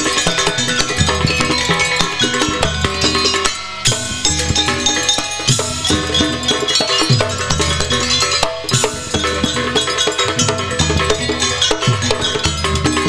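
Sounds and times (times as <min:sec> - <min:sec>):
hand drums beating: 0:00.0 - 0:13.0
pitched percussion: 0:00.0 - 0:13.0.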